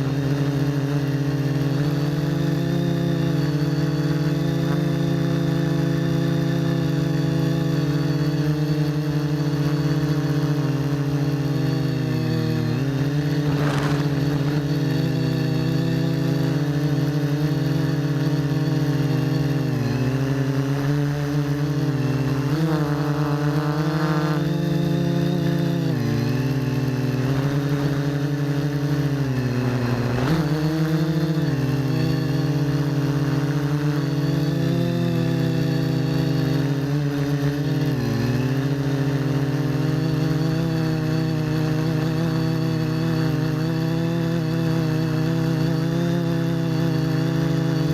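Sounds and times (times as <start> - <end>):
quadcopter propellers buzzing: 0.0 - 47.9.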